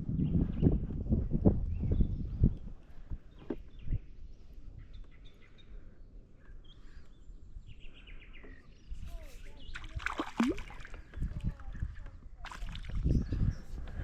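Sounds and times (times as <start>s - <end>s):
outdoor background noise: 0.0s - 14.0s
songbird chirping: 0.2s - 14.0s.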